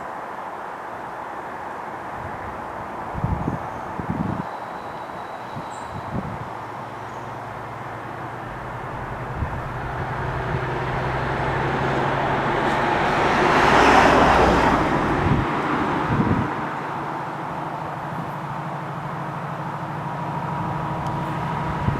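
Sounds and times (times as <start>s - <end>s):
diesel train passing: 1.1s - 21.9s.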